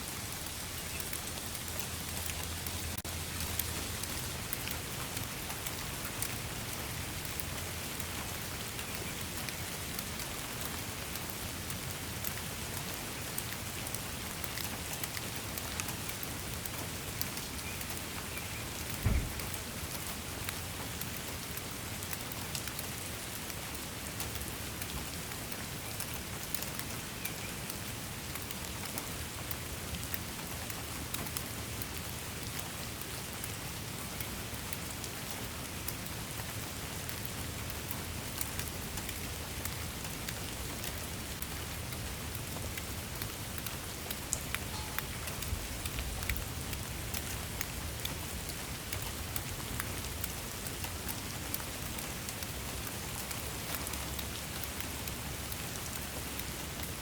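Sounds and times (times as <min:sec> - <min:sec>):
rain falling on a surface: 0:00.0 - 0:57.0
raindrop ticks: 0:00.3 - 0:57.0.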